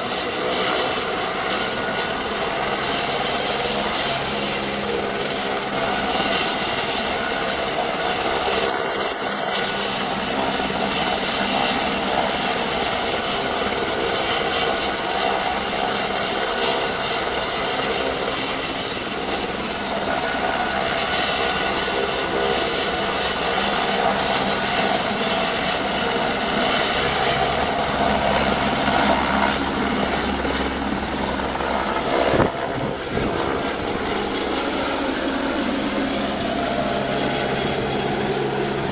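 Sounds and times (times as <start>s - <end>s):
helicopter rotor drone: 0.0s - 38.9s
helicopter turbine whine: 0.0s - 38.9s.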